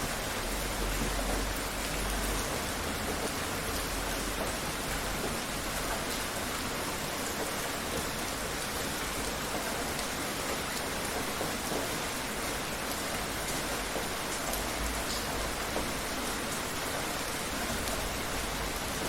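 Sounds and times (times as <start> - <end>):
heavy rain falling: 0.0 - 19.0
scattered raindrops: 0.0 - 19.0.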